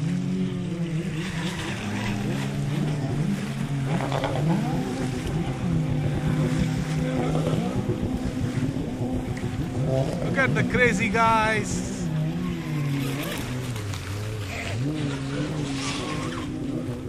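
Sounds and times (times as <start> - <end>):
watercraft engine at speed: 0.0 - 17.0.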